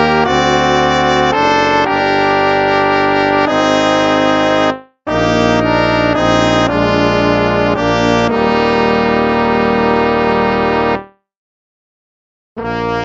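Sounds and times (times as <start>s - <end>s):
instrumental music with held notes: 0.0s - 11.3s, 12.6s - 13.0s.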